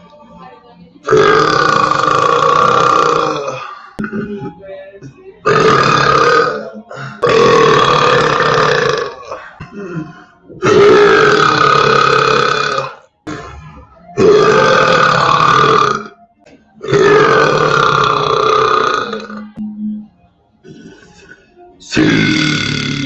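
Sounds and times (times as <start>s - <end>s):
person belching loudly: 1.0s - 4.6s, 5.4s - 16.2s, 16.8s - 19.6s, 20.6s - 23.0s.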